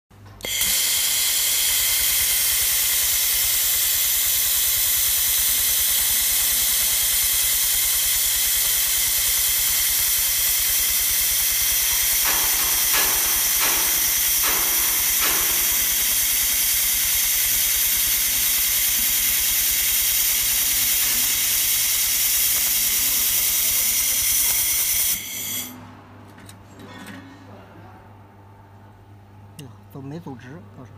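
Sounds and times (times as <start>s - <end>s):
laser welder hissing: 0.4s - 25.8s.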